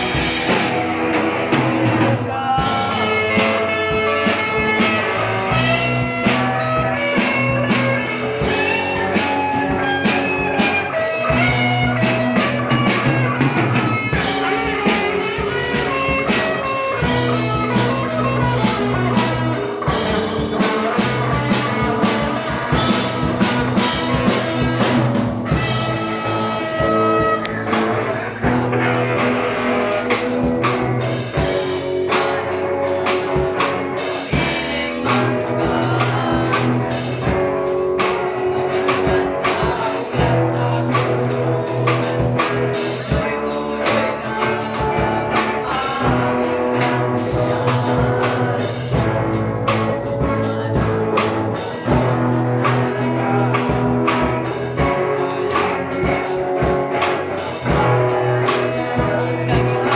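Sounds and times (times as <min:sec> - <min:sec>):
drums keeping steady beat: 0:00.0 - 0:59.9
lead guitar melodic lines: 0:00.0 - 0:59.9
rock band playing: 0:00.0 - 0:59.9.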